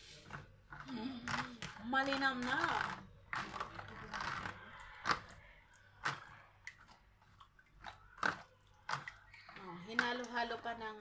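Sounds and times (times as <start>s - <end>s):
spoon stirring wet marinade: 0.0s - 11.0s.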